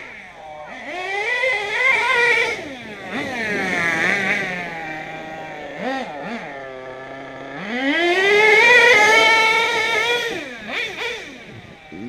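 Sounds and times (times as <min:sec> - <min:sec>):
rc truck engine revving: 0:00.0 - 0:12.0.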